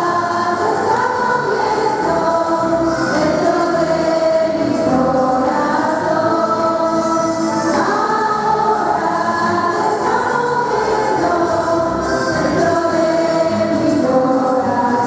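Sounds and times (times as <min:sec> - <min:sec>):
group of people singing: 0:00.0 - 0:15.0.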